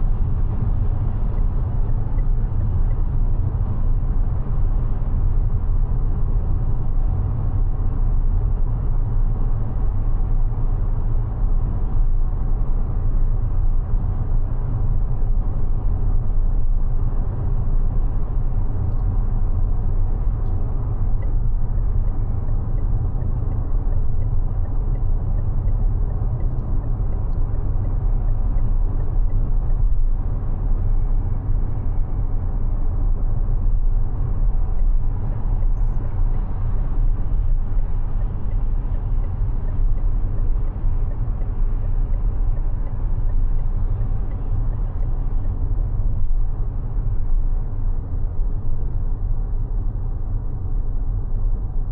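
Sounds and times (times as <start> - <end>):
road and tyre rumble: 0.0 - 51.9.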